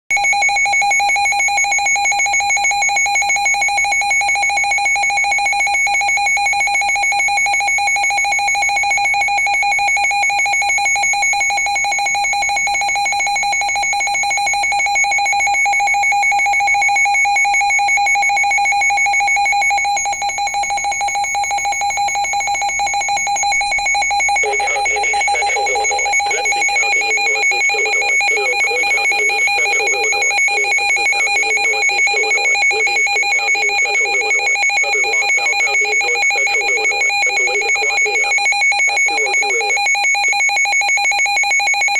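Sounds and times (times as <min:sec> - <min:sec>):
pulsing two-tone alarm beep: 0:00.1 - 0:41.9.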